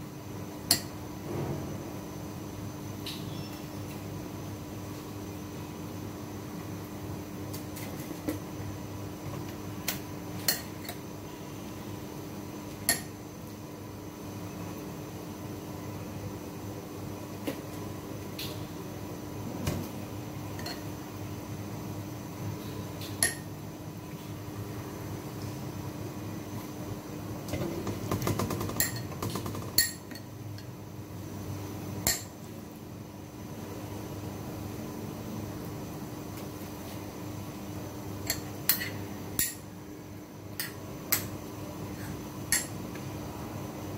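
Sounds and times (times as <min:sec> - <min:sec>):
appliance hum: 0:00.0 - 0:43.9.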